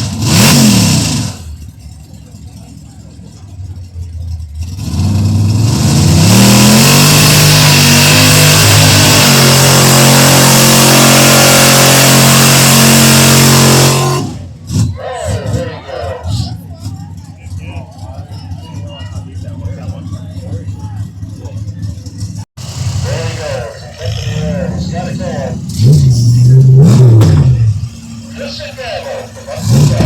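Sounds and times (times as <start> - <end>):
racing engine revving: 0.0 - 30.0.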